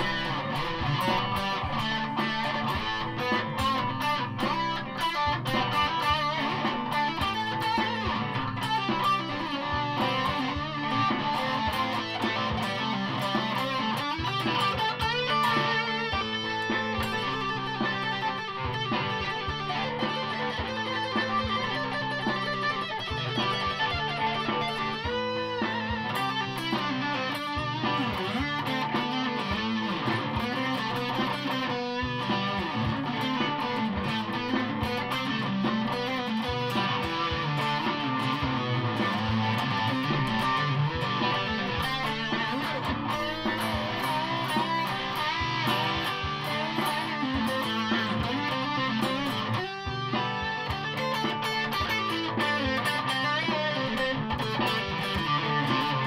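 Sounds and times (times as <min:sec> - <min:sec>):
electric guitar lead lines: 0:00.0 - 0:56.0.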